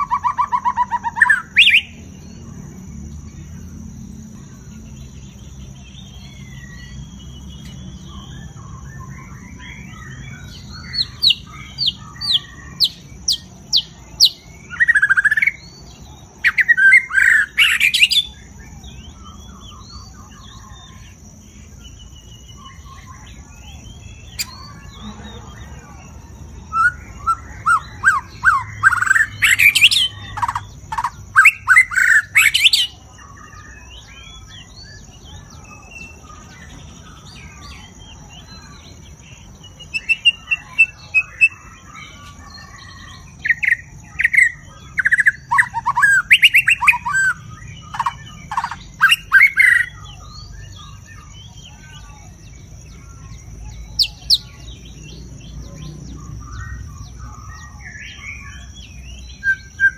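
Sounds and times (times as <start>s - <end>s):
songbird whistles and trills: 4.3s - 59.9s.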